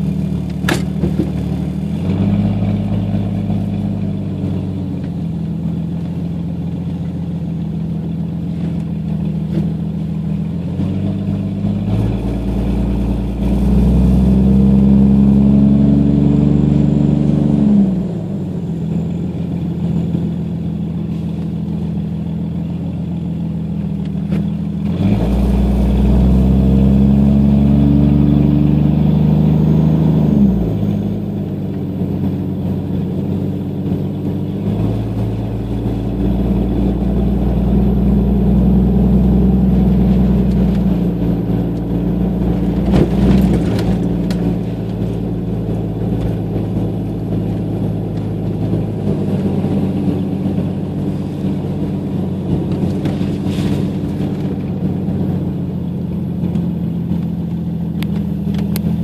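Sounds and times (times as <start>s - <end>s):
car exhaust revving: 0.0s - 59.0s.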